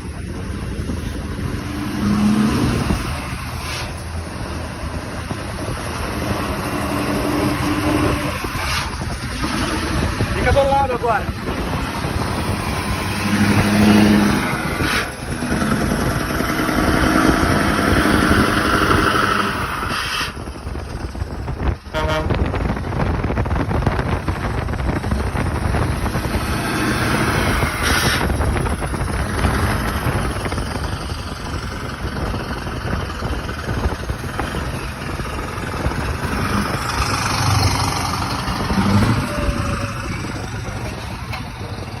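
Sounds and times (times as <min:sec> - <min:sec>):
truck engine rumbling: 0:00.0 - 0:42.0.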